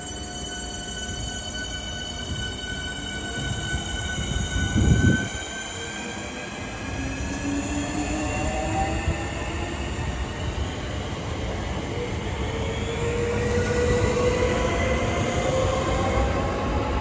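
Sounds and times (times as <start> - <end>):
electric train whining: 0.0 - 17.0.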